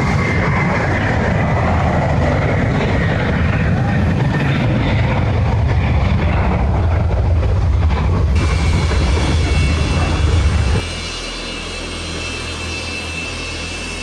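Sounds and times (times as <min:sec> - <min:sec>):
high whine: 0:00.0 - 0:14.0
jet engines roaring: 0:00.0 - 0:14.0.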